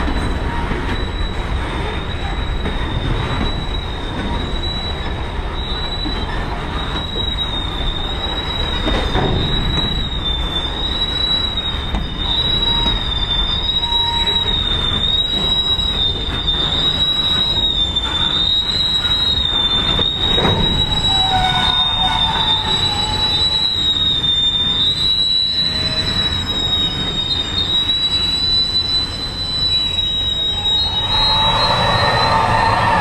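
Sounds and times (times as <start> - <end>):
freight cars rolling on rails: 0.0 - 33.0
high-pitched wheel squeal: 0.0 - 33.0
lower wheel squeal: 0.0 - 33.0.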